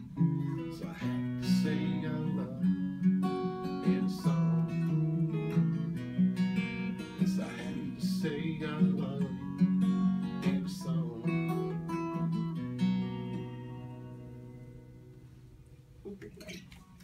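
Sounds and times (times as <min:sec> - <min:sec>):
acoustic guitars playing chords: 0:00.0 - 0:17.0.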